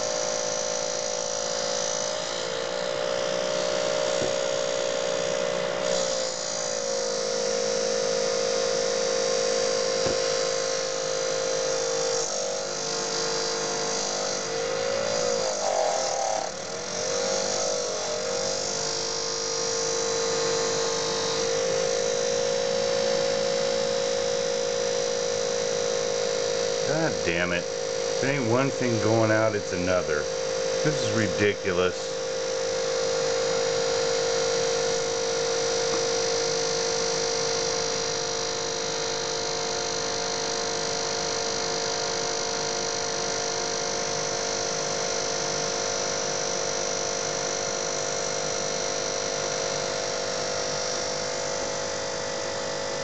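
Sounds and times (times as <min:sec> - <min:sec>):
pump buzzing whine: 0:00.0 - 0:53.0.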